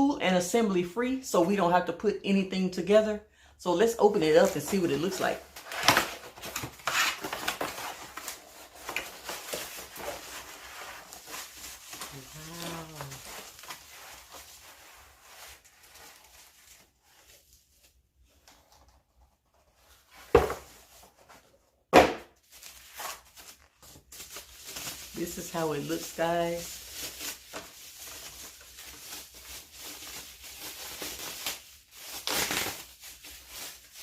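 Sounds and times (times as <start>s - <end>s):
packaging rustling and crinkling: 4.4s - 21.5s, 22.4s - 34.0s.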